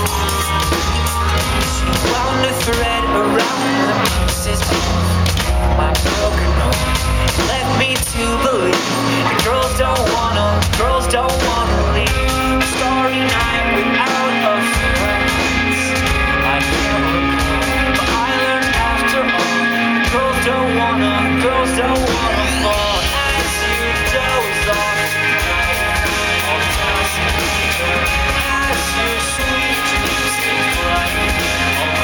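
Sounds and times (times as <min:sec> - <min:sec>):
live pop band: 0:00.0 - 0:32.0
man singing: 0:00.0 - 0:32.0.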